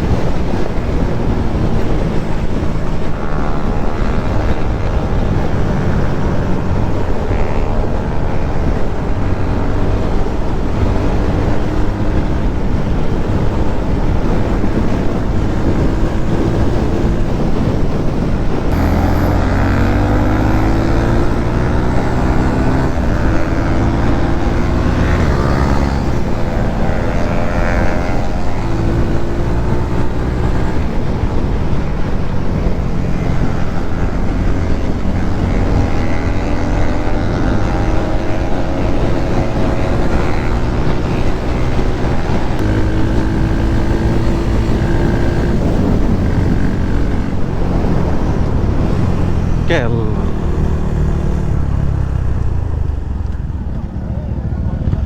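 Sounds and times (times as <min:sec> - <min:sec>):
motorcycle engine revving through gears: 0:00.0 - 0:55.0
wind and road noise: 0:00.0 - 0:55.0.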